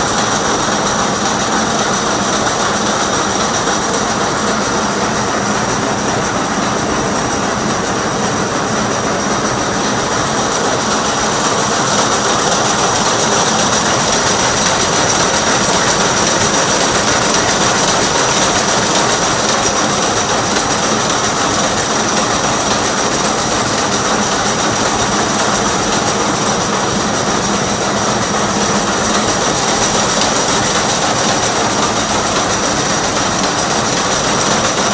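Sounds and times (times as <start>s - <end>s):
braiding machine clatter: 0.0s - 34.9s.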